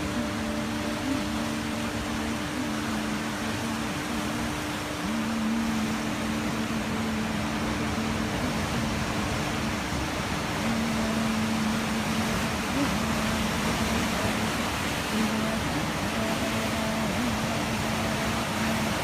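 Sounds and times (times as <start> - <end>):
low held drone: 0.0 - 19.0
steady rushing noise: 0.0 - 19.0.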